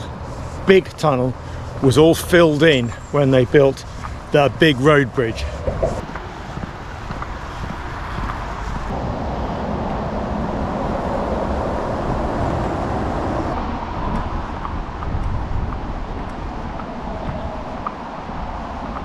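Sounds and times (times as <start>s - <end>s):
road traffic rushing: 0.0s - 19.0s.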